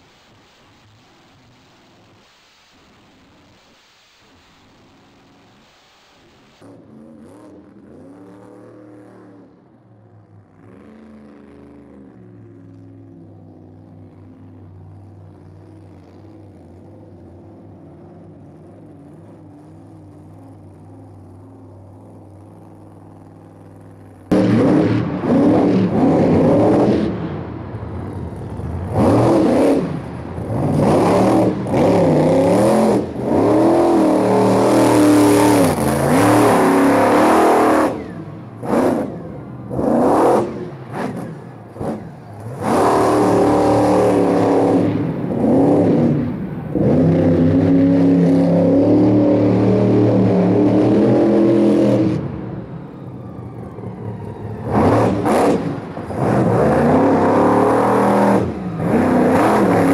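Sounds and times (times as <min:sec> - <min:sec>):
monster truck engines revving: 0:06.6 - 0:59.9.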